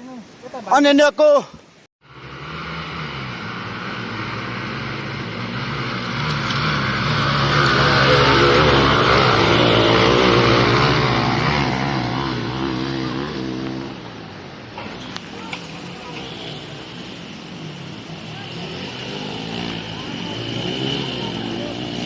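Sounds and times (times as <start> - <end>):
dirt bike engines revving: 2.0 - 22.0.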